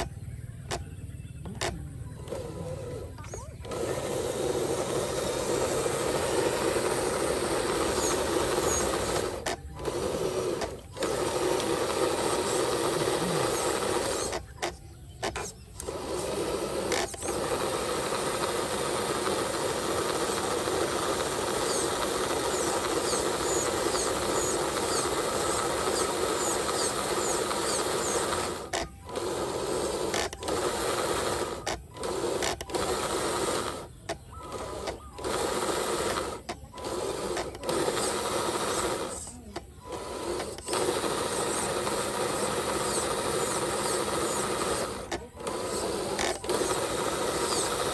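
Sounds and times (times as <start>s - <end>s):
model truck motor whirring: 0.0s - 47.9s.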